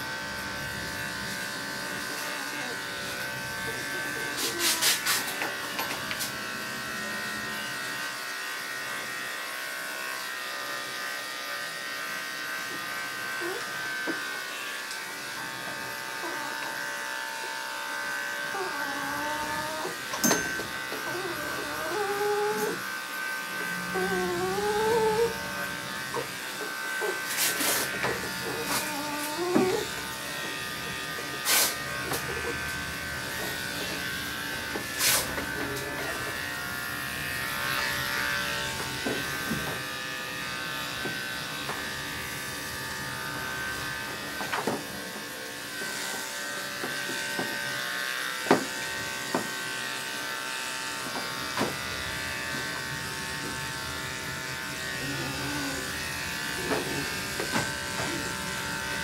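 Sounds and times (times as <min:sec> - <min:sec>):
dog clipper humming: 0:00.0 - 0:59.0.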